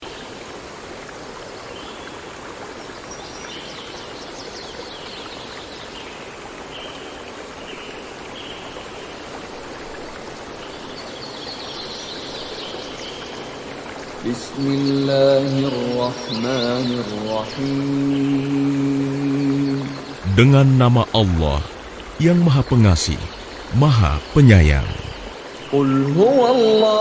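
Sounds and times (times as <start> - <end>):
stream of running water: 0.0 - 27.0.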